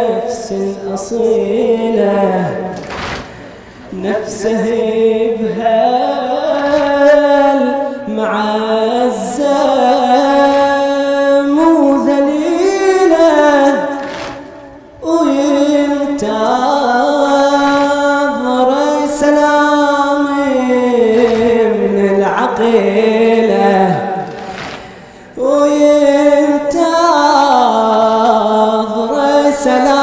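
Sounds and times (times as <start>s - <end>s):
man singing lament into microphone: 0.0s - 30.0s.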